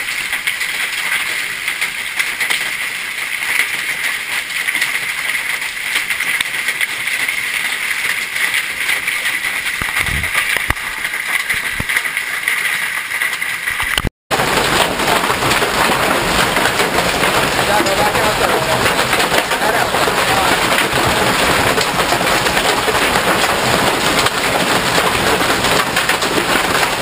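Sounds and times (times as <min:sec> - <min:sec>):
hail and rain pelting: 0:00.0 - 0:27.0.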